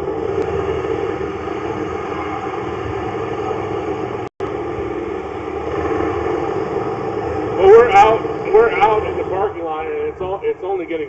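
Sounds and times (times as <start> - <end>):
mechanical drone: 0.0 - 11.0.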